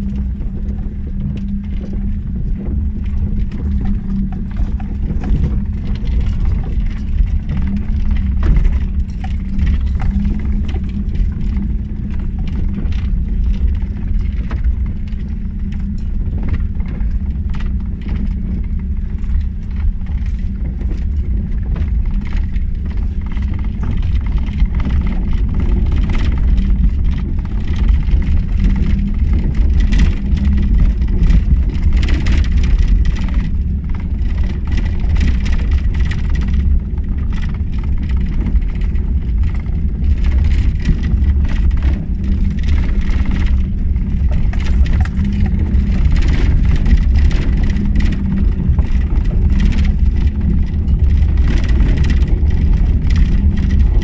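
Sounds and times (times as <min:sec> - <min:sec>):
body clicks and rattles: 0:00.0 - 0:54.0
car engine drone: 0:00.0 - 0:54.0.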